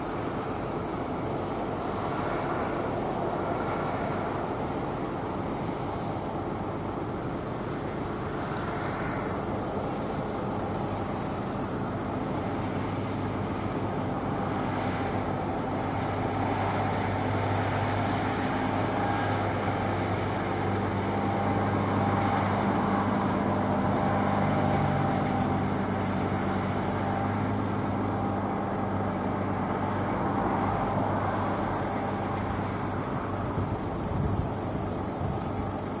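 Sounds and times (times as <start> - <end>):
combine harvester drone: 0.0 - 36.0.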